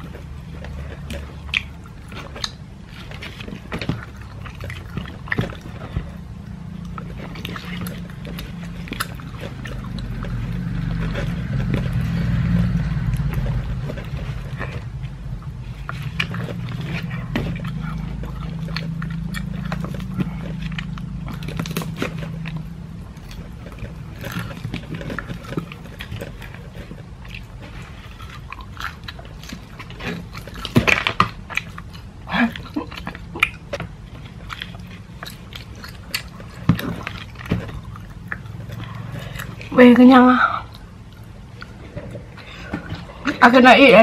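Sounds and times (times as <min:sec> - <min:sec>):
fingers tearing crunchy coating: 0:00.0 - 0:39.8
chewing crispy fried chicken: 0:00.0 - 0:44.0.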